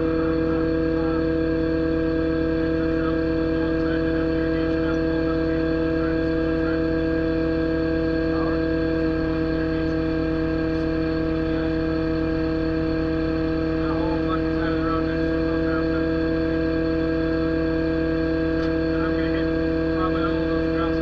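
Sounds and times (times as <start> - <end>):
excavator engine idling: 0.0 - 21.0.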